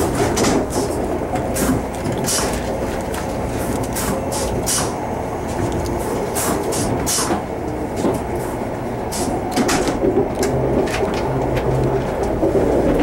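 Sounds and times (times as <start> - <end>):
train rumble and hiss: 0.0 - 13.0.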